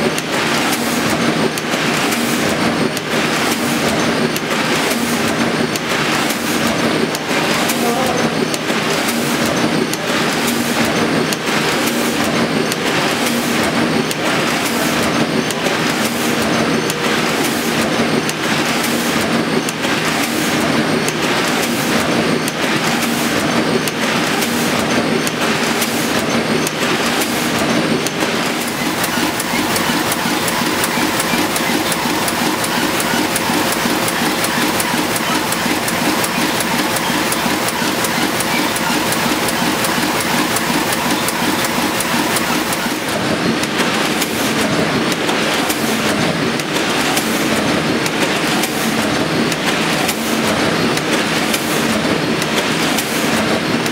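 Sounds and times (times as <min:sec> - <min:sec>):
printing press clatter: 0:00.0 - 0:53.9.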